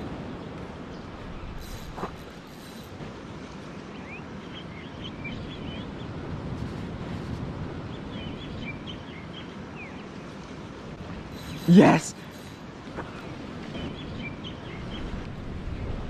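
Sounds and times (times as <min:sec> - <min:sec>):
water: 0:00.0 - 0:16.0
wind: 0:00.0 - 0:16.0.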